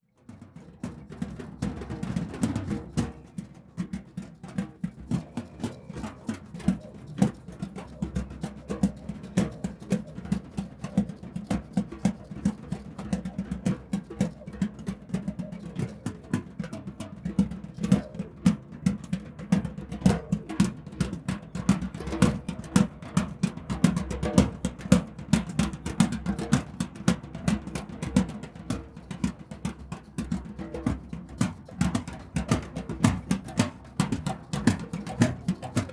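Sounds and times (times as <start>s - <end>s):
drum circle playing: 0.2s - 35.9s.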